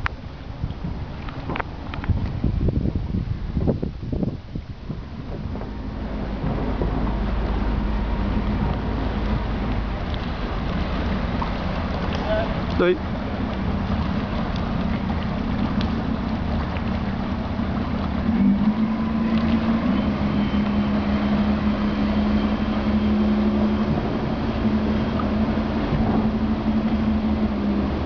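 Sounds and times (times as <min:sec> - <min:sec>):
speedboat motor droning: 0:00.0 - 0:28.0.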